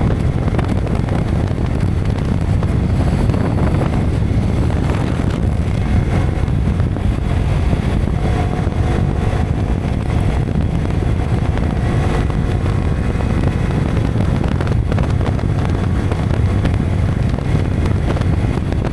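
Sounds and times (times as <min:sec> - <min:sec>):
faint motorcycle engine: 0:00.0 - 0:18.9
wind buffeting microphone: 0:00.0 - 0:18.9.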